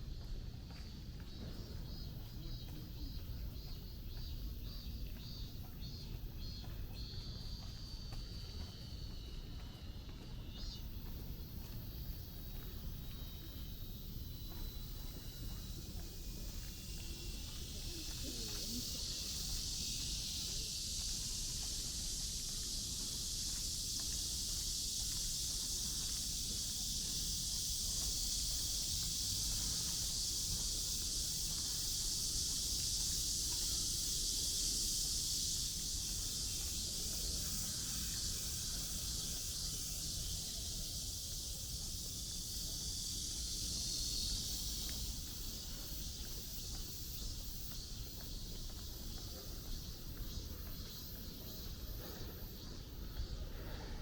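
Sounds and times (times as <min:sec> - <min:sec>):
high-pitched insect drone: 0:00.7 - 0:54.0.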